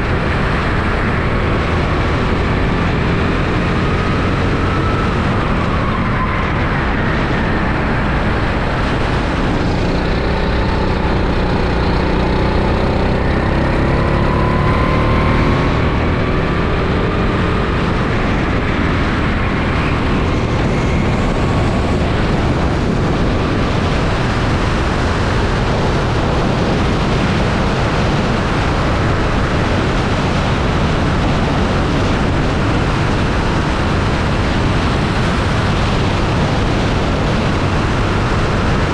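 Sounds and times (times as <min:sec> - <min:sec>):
go-kart engine running: 0:00.0 - 0:38.9
wind noise: 0:00.0 - 0:38.9.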